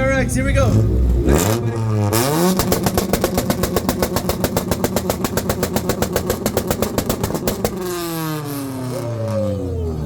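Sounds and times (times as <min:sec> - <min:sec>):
exhaust popping on rev limiter: 0:00.4 - 0:10.0.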